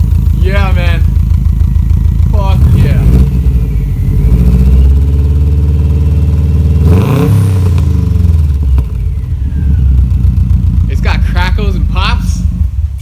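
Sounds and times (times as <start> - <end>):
car engine revving: 0.0 - 13.0
exhaust pop: 0.0 - 13.0.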